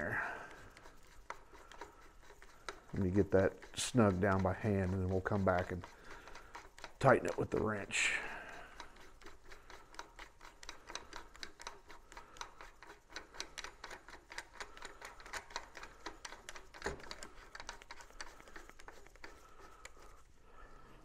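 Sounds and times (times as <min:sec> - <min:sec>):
metallic clicking of nut on threads: 0:00.0 - 0:20.2.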